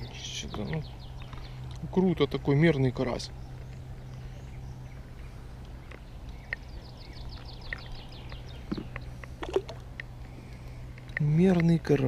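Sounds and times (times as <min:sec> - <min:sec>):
small songbird singing: 0:00.0 - 0:12.0.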